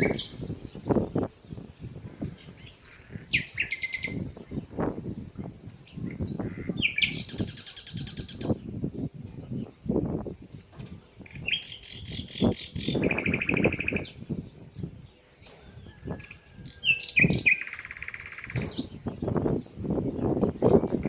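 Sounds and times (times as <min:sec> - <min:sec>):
small songbirds chirping: 0:00.0 - 0:21.0.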